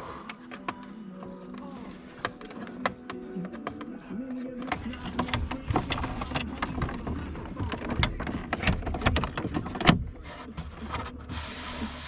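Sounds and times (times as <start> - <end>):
plastic trim clicks and knocks: 0.3 - 11.1.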